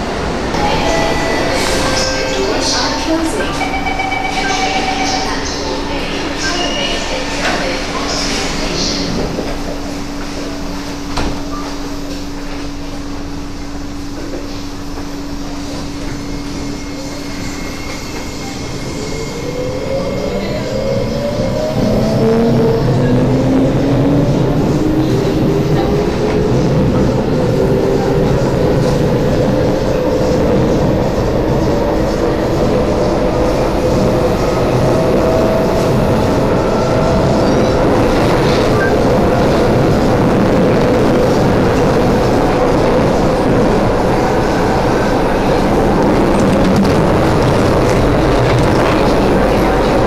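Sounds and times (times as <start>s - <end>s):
electric train rumble and hum: 0.0s - 50.0s.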